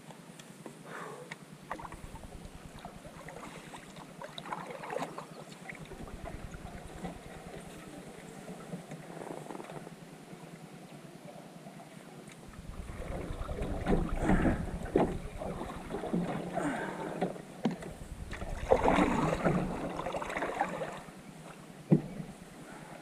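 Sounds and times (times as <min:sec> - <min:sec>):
paddle splashing and dripping: 0:01.7 - 0:09.8, 0:12.3 - 0:23.0.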